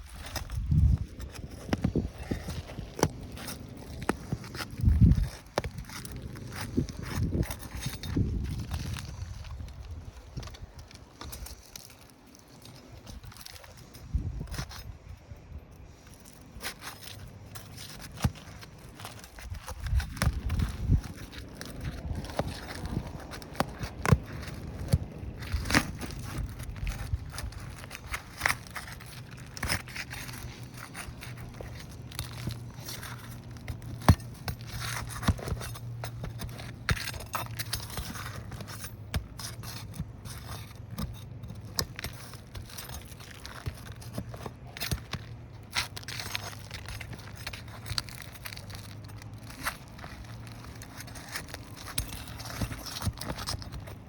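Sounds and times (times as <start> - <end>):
objects being handled: 0.0 - 54.0.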